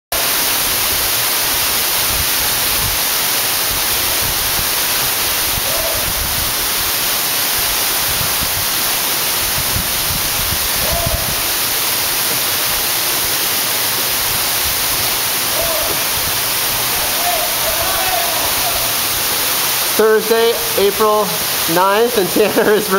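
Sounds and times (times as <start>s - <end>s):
waterfall rushing onto rock: 0.1s - 22.9s.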